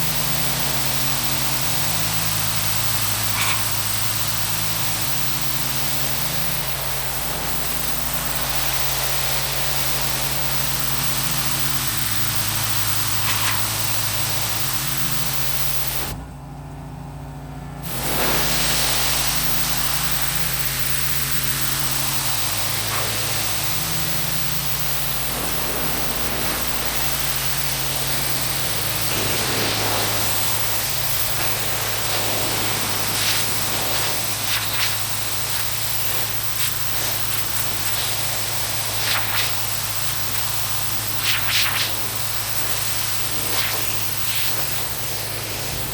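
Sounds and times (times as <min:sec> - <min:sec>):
pressure washer spray hissing: 0:00.0 - 0:16.2, 0:17.8 - 0:45.9
pressure washer machine hum: 0:00.0 - 0:45.9.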